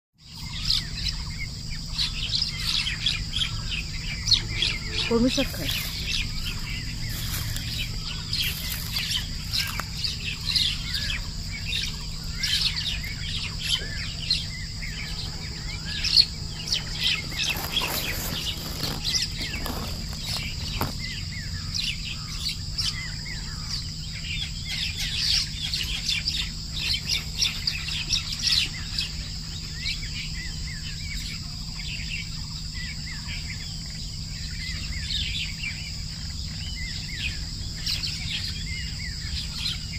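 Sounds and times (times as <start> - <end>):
small birds chirping: 0.2 - 39.9
steady high whine: 0.2 - 39.9
low hum: 0.4 - 39.9.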